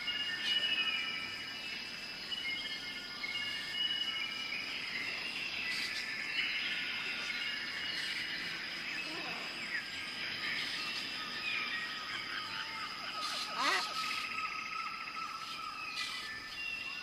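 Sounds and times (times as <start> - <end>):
chirping and whistled calls: 0.0 - 17.0
high-pitched insect drone: 0.0 - 17.0.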